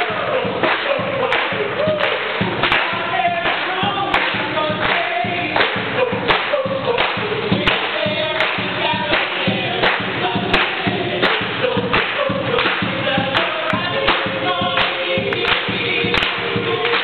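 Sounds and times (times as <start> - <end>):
choir singing: 0.0 - 17.0
sharp percussive beat: 0.0 - 17.0.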